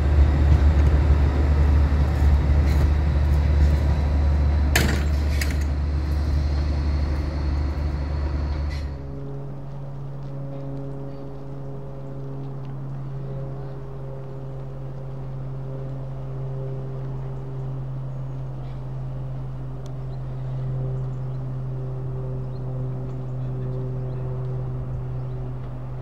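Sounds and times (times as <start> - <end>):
diesel train engine drone: 0.0 - 26.0.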